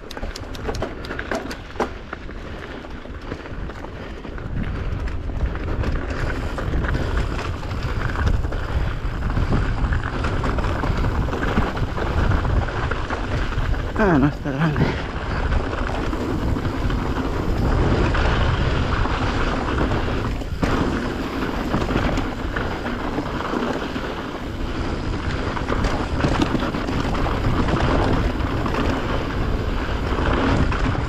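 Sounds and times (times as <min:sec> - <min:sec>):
bike rattling over bumps: 0:00.0 - 0:31.0
bike tyres on dirt: 0:00.0 - 0:31.0
wind rushing over microphone: 0:02.9 - 0:31.0.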